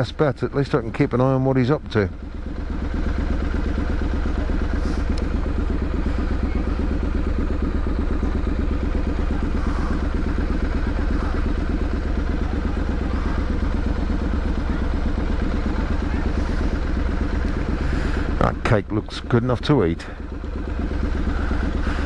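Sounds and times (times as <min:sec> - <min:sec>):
motorcycle engine running steadily: 0:00.0 - 0:22.0.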